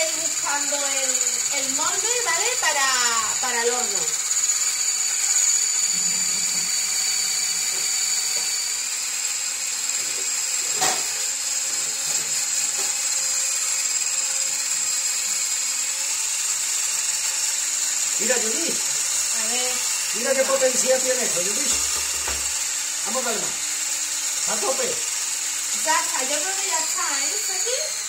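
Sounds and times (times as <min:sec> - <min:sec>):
electric blender whining: 0:00.0 - 0:28.0.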